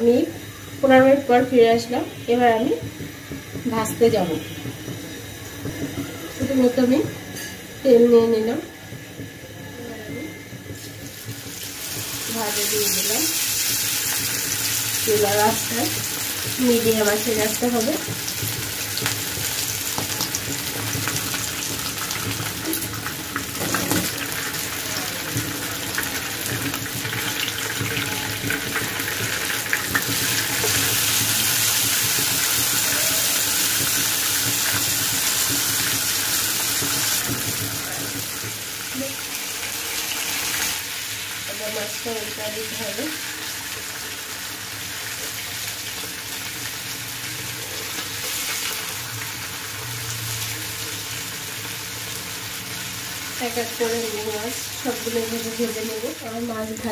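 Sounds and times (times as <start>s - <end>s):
fish sizzling in hot oil: 10.7s - 56.9s.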